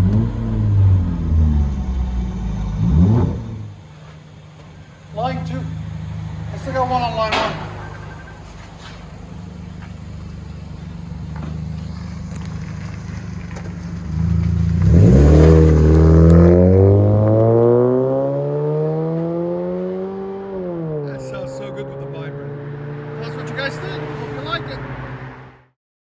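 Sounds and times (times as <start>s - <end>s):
car engine accelerating: 0.0s - 25.8s.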